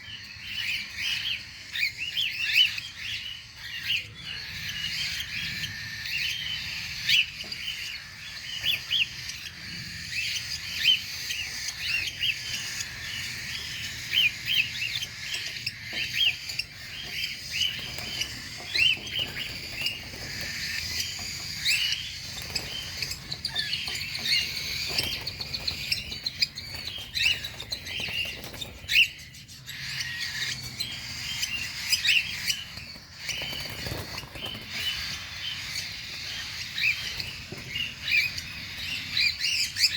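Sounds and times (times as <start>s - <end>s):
cockatiels chirping and calling: 0.0s - 39.9s.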